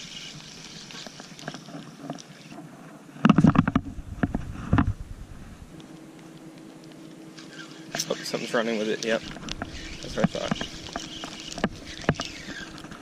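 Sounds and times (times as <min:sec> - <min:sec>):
rumbling and rubbing on camera: 0:00.0 - 0:13.0.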